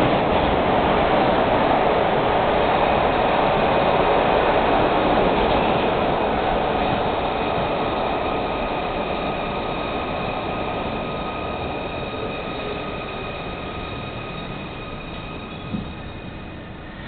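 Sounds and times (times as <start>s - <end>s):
subway car wheels rumbling on rail: 0.0s - 17.0s.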